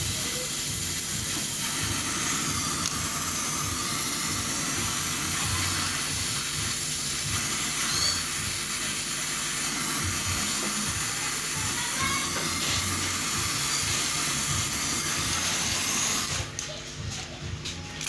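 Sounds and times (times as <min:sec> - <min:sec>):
gas hissing: 0:00.0 - 0:16.7.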